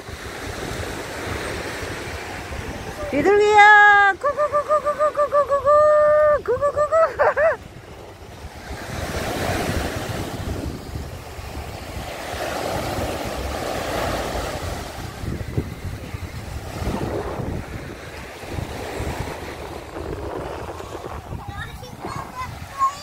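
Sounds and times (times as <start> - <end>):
waves breaking on beach: 0.0 - 23.0
wind buffeting microphone: 0.0 - 23.0.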